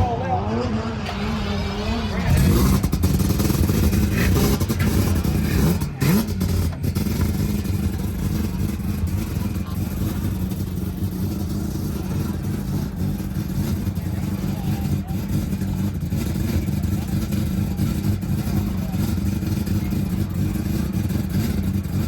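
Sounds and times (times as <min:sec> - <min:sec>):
rotary engine running and revving: 0:00.0 - 0:22.0.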